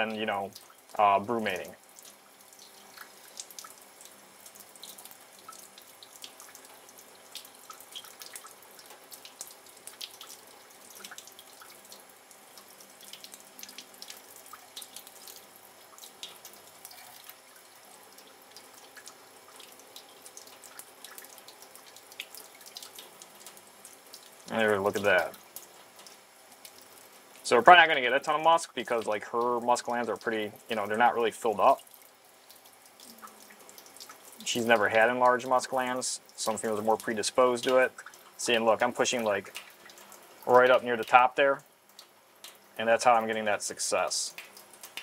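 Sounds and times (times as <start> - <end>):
tap water running and splashing: 0.0 - 45.0
water drips: 0.0 - 45.0.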